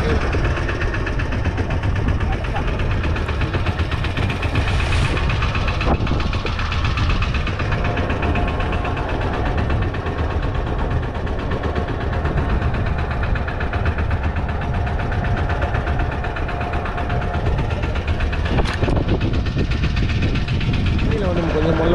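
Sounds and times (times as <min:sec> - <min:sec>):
boat engine idling: 0:00.0 - 0:21.9.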